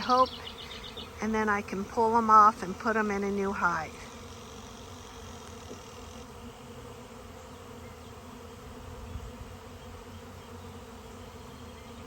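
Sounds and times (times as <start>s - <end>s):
swarm of bees buzzing: 0.0s - 12.0s.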